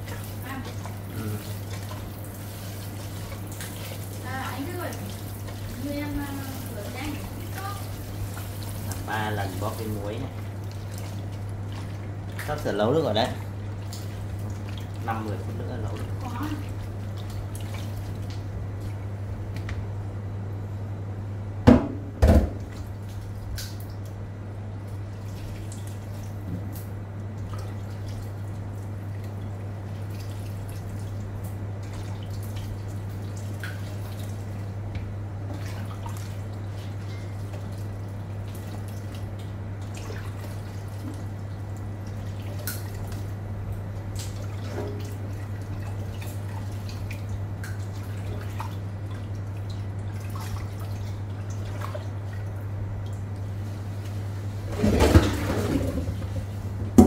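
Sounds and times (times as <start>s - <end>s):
drips and splashes: 0.0s - 19.7s, 22.4s - 56.5s
squeezing and rinsing in water: 0.0s - 19.7s, 22.5s - 56.5s
steady low hum: 0.0s - 57.0s.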